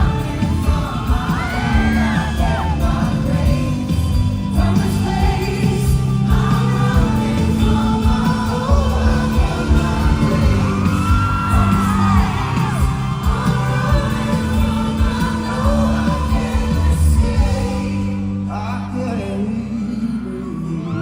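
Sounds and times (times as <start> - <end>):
crowd whooping: 0.0 - 17.8, 18.9 - 21.0
bass-heavy backing beat: 0.0 - 18.4
man singing: 0.0 - 21.0.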